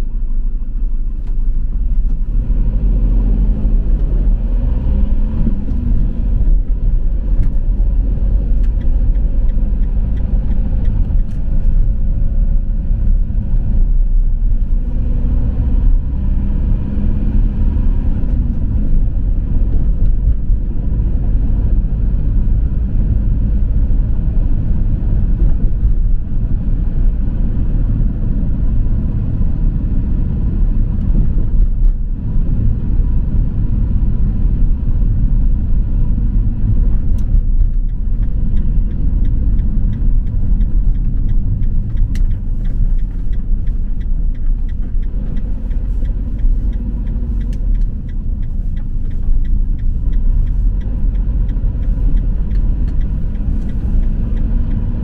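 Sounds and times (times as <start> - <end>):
tyres on road: 0.0 - 55.0
vehicle engine rumble: 0.0 - 55.0.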